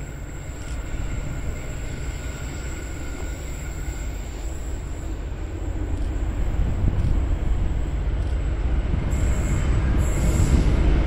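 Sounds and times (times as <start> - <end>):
distant trains rumbling: 0.0 - 11.0.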